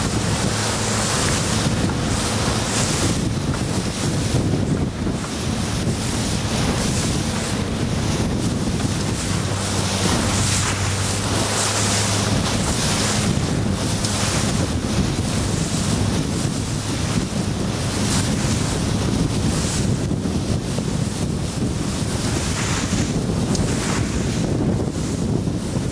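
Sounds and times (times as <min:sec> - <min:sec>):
low motor hum: 0:00.0 - 0:25.9
rushing splashing water: 0:00.0 - 0:25.9
wind buffeting microphone: 0:00.0 - 0:25.9.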